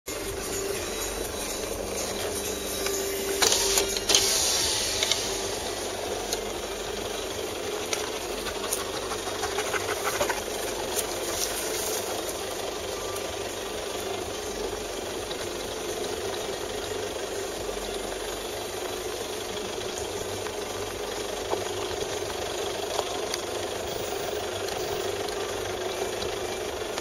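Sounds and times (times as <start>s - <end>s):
diesel engine idling: 0.1s - 27.0s.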